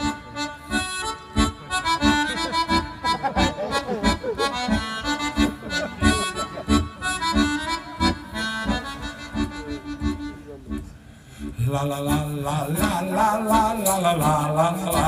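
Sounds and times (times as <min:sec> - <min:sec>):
accordion folk melody: 0:00.0 - 0:15.0.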